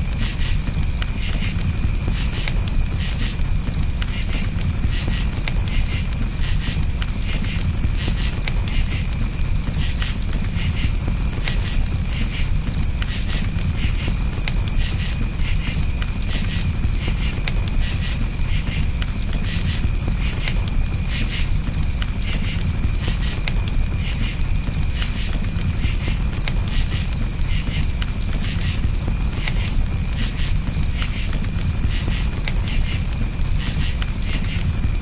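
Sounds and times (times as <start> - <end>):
crackling campfire: 0.0 - 35.0
crickets chirping: 0.0 - 35.0
fire popping: 0.0 - 35.0.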